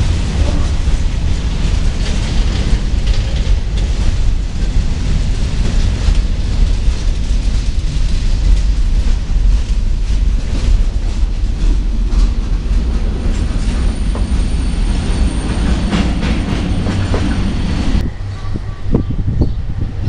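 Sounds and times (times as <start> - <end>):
wheels clacking over rail joints: 0.0 - 18.0
freight train rumbling past: 0.0 - 20.0
outdoor background: 0.0 - 20.0.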